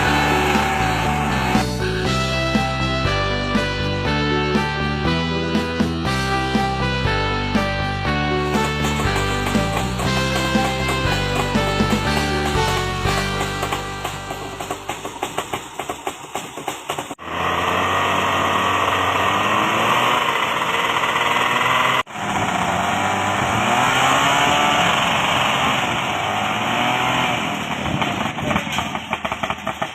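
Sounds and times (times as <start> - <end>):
small engine running: 0.0 - 3.7, 8.4 - 29.9.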